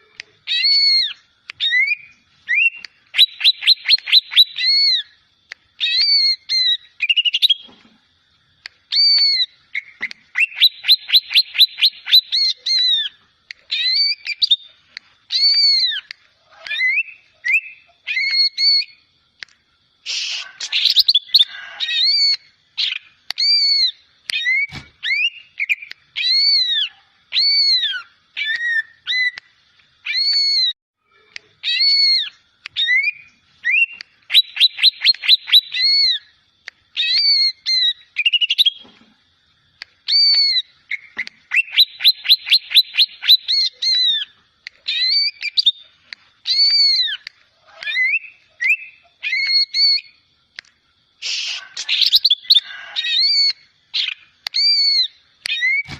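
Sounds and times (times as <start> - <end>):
bird whistling song: 0.0 - 5.2, 5.8 - 7.7, 8.9 - 19.1, 20.0 - 30.8, 31.6 - 36.3, 36.9 - 38.9, 40.0 - 50.2, 51.2 - 55.9.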